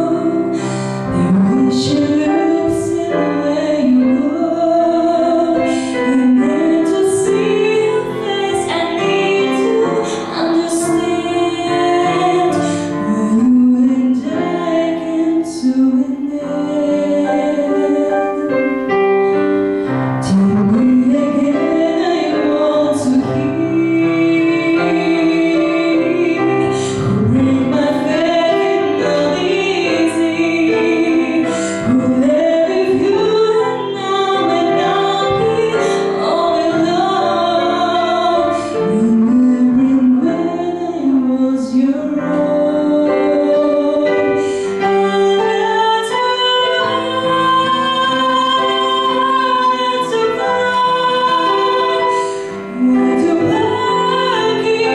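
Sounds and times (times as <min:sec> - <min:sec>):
digital piano: 0:00.0 - 0:54.9
woman singing into microphone: 0:00.0 - 0:54.9.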